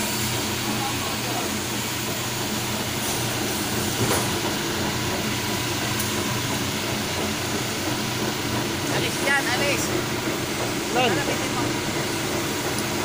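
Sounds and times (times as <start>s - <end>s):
concrete mixer humming: 0.0s - 13.0s.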